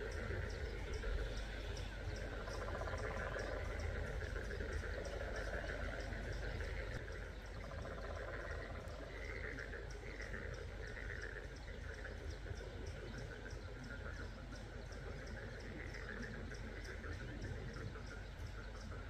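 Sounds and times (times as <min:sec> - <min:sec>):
frogs calling: 0:00.0 - 0:19.0
low hum: 0:00.0 - 0:19.0.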